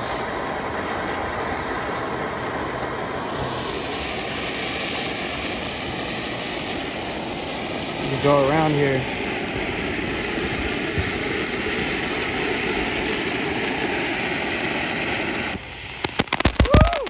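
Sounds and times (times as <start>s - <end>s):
firework fountain hissing: 0.0s - 17.0s.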